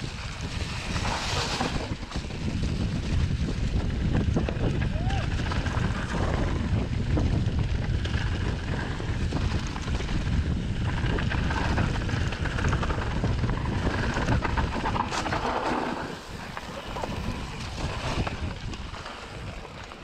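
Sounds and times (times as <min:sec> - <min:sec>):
bike clattering and rattling: 0:00.0 - 0:20.0
bike tyres rumbling on dirt: 0:00.0 - 0:20.0
wind on microphone: 0:00.0 - 0:20.0.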